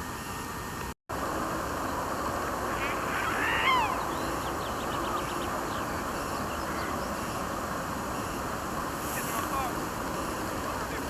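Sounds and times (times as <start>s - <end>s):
songbirds calling: 1.7s - 11.0s.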